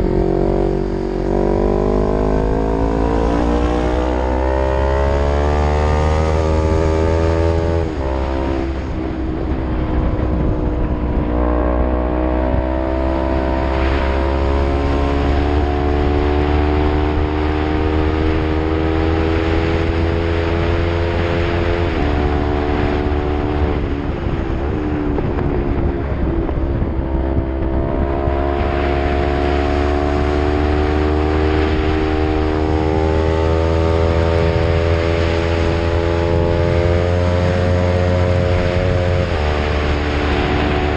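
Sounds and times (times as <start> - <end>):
motorcycle engine under load: 0.0 - 40.9.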